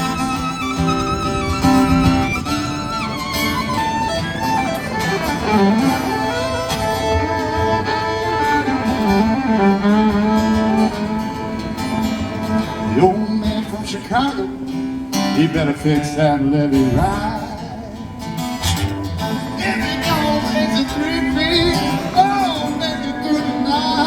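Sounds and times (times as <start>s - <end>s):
fiddle solo with sliding notes: 0.0s - 14.5s, 18.6s - 24.0s
guitar accompaniment: 0.0s - 24.0s.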